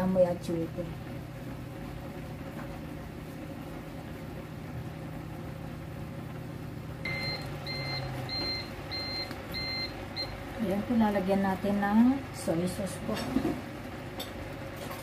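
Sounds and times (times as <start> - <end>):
broth simmering: 0.0 - 14.8.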